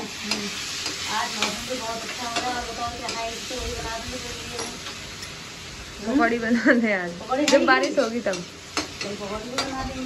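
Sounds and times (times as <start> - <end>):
masala sizzling in pan: 0.0 - 10.0.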